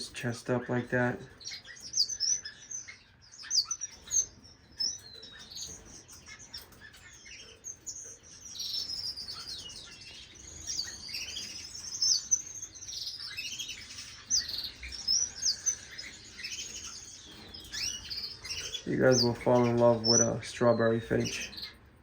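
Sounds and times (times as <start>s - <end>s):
finches chirping: 0.0s - 22.0s.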